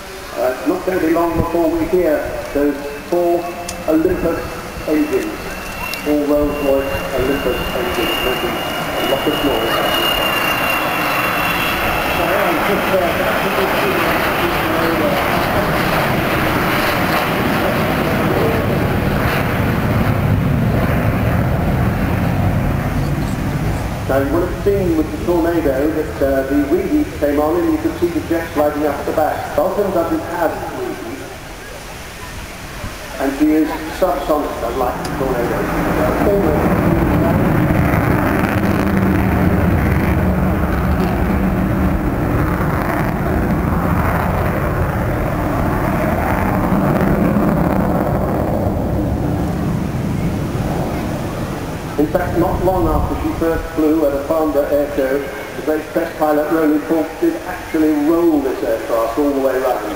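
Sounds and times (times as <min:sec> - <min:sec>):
jet plane flying by: 0:00.0 - 0:59.9.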